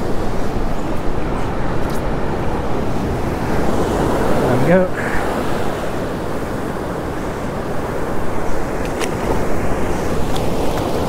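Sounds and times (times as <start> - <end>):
breaking surf washing over sand: 0.0 - 11.0
wind buffeting microphone: 0.0 - 11.0.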